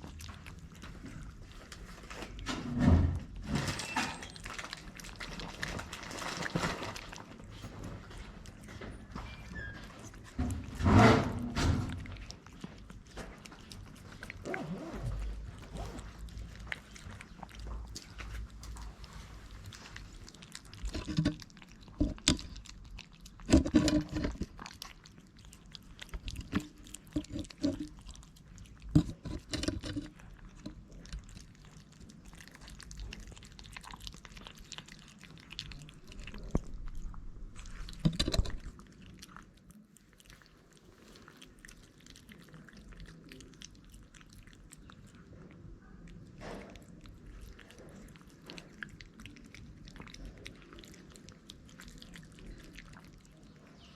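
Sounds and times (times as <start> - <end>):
cats crunching food: 0.0 - 53.9.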